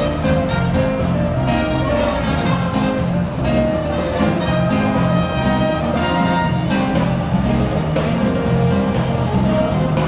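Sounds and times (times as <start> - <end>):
held melody notes: 0.0 - 10.0
moving bass line: 0.0 - 10.0.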